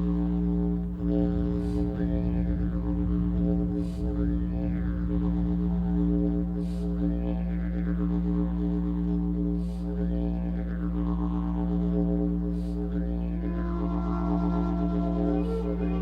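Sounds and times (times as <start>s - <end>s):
low drone music: 0.0s - 16.0s.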